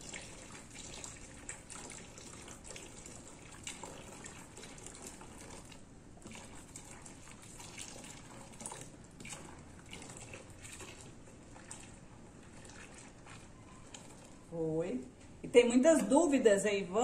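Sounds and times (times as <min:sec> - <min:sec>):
liquid pouring into basin: 0:00.0 - 0:14.6
faint splashing from stirring: 0:00.0 - 0:15.4.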